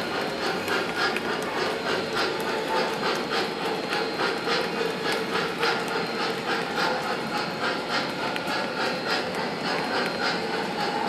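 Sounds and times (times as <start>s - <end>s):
model steam locomotive chuffing: 0.0s - 11.0s.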